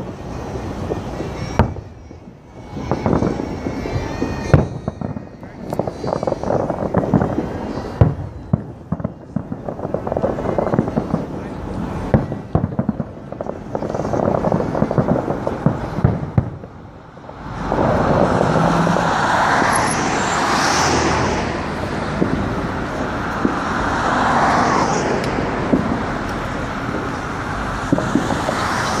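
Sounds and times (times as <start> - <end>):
cars passing: 0.0 - 29.0
fireworks popping and crackling: 0.0 - 29.0
road traffic rush: 0.0 - 29.0.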